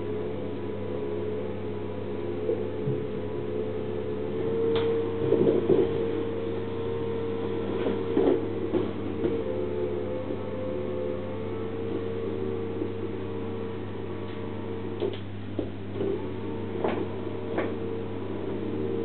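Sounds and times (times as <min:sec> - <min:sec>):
massage cushion motor hum: 0:00.0 - 0:19.0.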